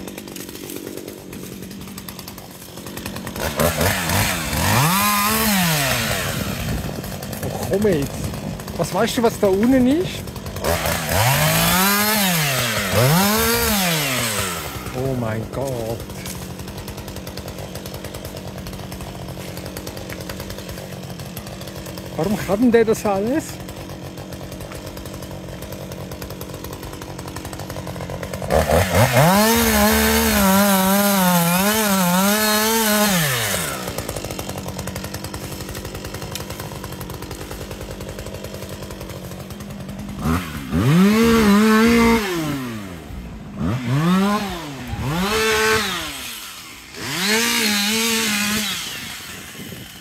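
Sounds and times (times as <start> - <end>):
chainsaw idling and revving: 0.0 - 50.0.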